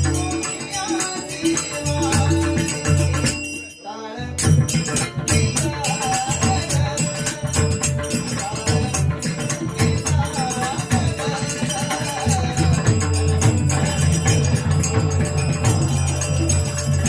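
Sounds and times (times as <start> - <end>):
hand drum beats: 0.0 - 3.4, 4.4 - 17.0
hand cymbals jingling: 0.0 - 17.0
singing: 0.0 - 17.0.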